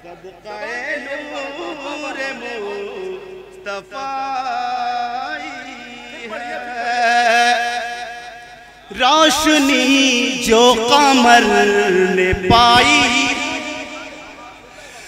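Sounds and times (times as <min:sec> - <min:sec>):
man singing: 0:00.0 - 0:14.8.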